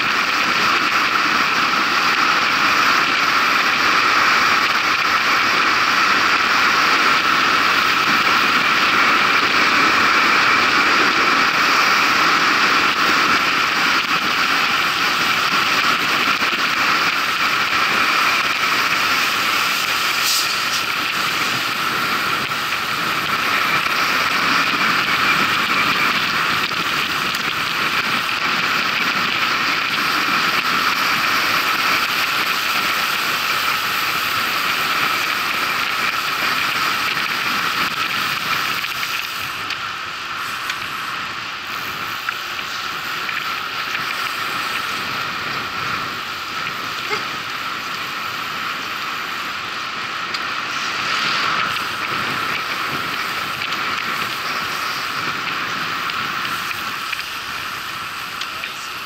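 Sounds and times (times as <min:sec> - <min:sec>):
bicycle tyres rolling on road: 0:00.0 - 0:59.0.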